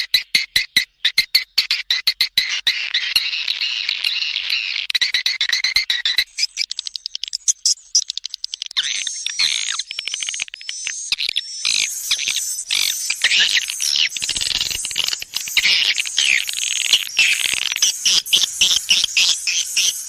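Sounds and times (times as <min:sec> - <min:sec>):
swiftlets chirping and twittering: 0:02.4 - 0:20.0.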